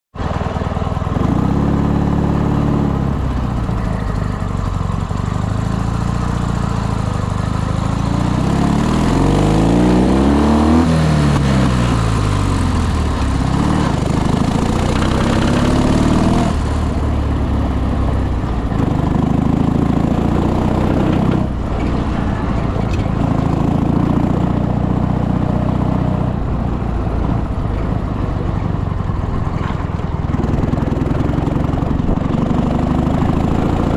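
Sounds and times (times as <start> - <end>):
motorcycle engine revving: 0.2 - 33.9.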